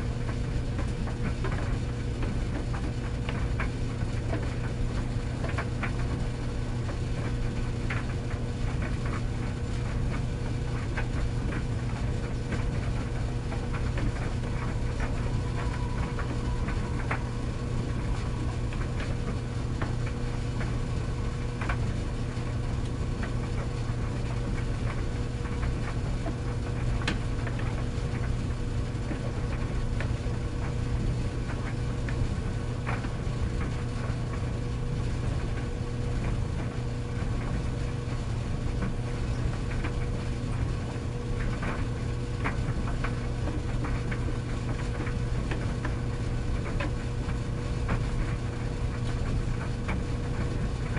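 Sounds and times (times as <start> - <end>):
tumble dryer motor hum: 0.0 - 50.9
load ticking in dryer drum: 0.1 - 50.9.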